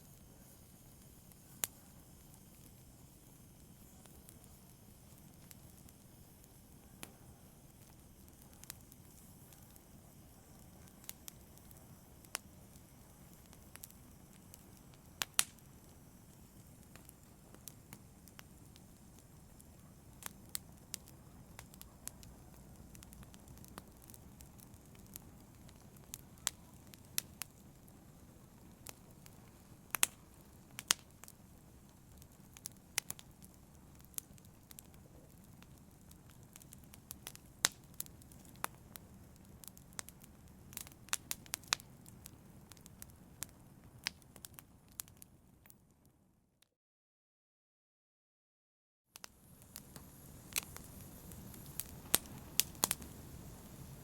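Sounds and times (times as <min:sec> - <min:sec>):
wood fire crackling: 0:00.0 - 0:46.0, 0:49.2 - 0:54.0.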